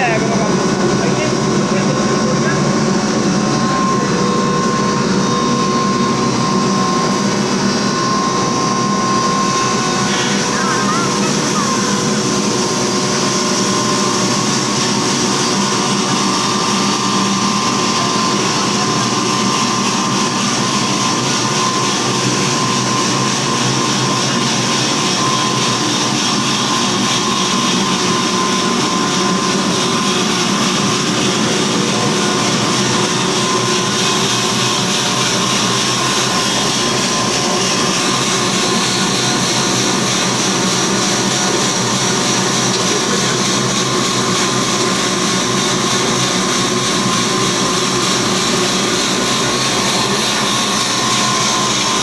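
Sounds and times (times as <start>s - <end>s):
feed grinder running: 0.0s - 52.0s.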